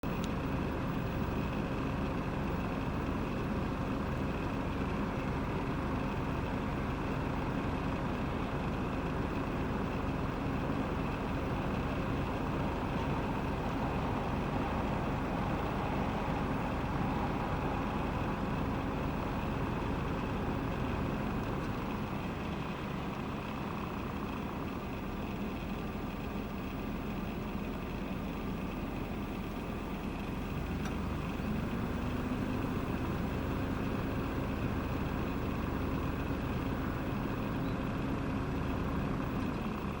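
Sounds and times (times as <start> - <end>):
vehicle engine hum: 0.0 - 40.0.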